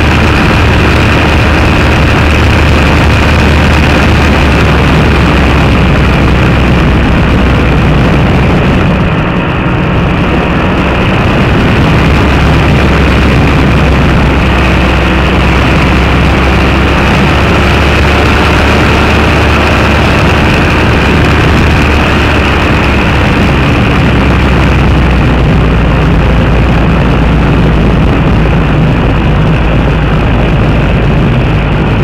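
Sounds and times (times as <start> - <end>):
aircraft engine and propeller: 0.0 - 32.0.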